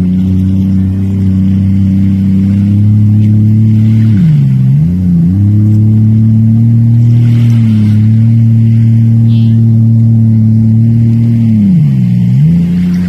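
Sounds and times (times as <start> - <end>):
jet ski engine running: 0.0 - 13.0.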